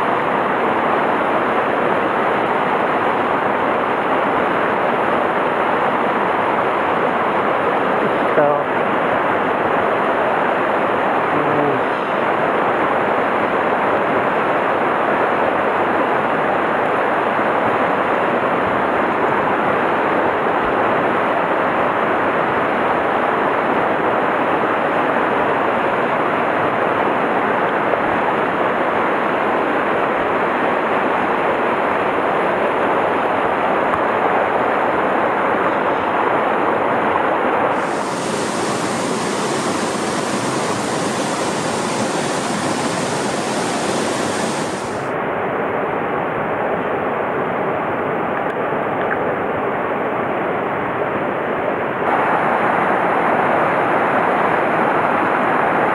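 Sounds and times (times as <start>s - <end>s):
stream rushing over boulders: 0.0s - 55.9s.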